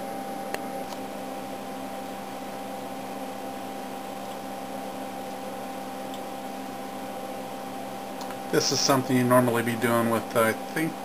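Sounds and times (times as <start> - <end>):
cooling fans: 0.0 - 11.0
electronic equipment hum: 0.0 - 11.0.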